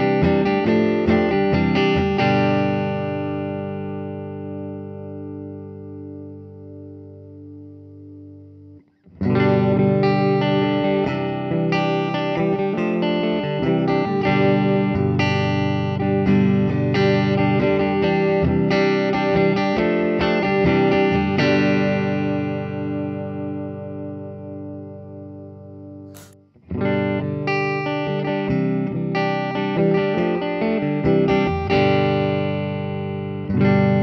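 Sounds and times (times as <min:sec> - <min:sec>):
clean electric guitar chords: 0:00.0 - 0:34.0.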